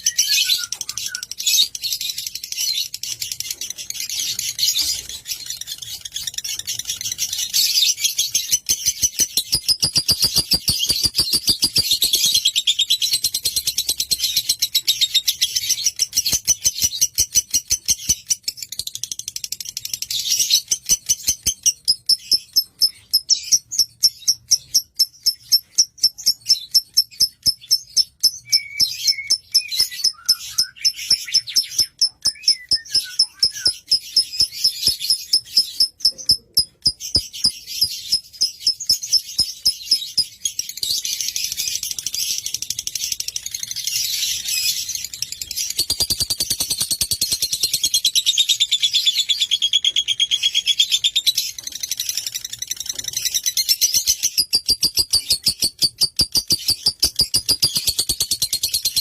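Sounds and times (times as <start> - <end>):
lovebird chirping and trilling: 0.0 - 59.0.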